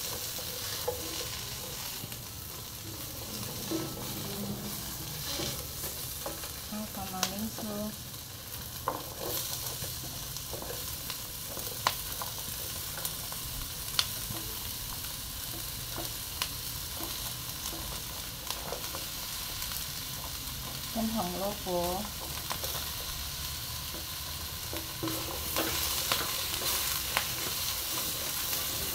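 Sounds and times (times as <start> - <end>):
spatula stirring and scraping: 0.0 - 7.7, 8.5 - 20.9, 22.0 - 28.9
vegetables sizzling in oil: 0.0 - 28.9.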